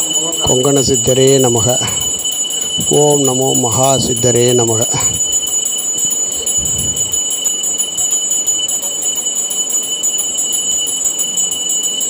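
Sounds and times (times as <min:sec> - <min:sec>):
bell rung rapidly: 0:00.0 - 0:12.0.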